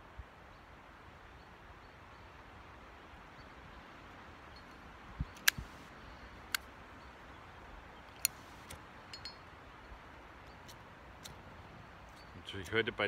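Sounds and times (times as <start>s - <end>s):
wind hiss: 0.0s - 13.0s.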